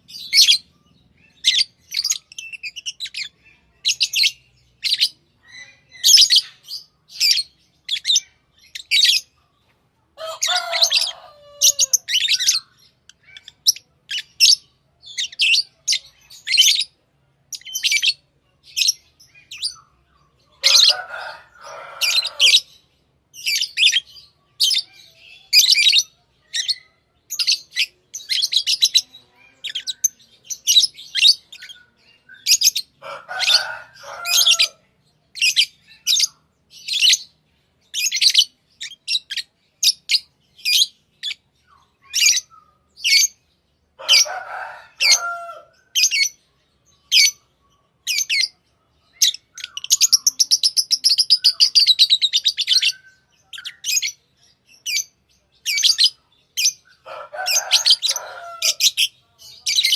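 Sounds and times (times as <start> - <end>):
lovebirds chirping: 0.0 - 59.9
lower chattering bird calls: 0.0 - 59.9.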